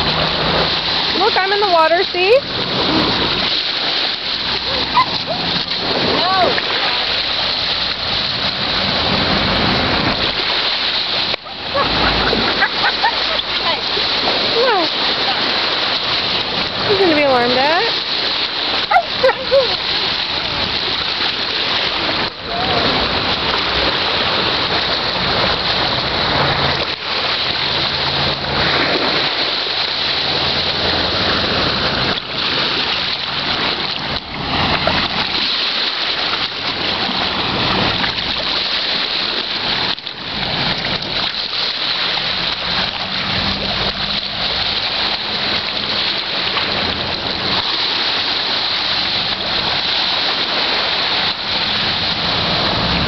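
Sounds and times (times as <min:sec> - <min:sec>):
waves washing over rocky beach: 0:00.0 - 0:53.0.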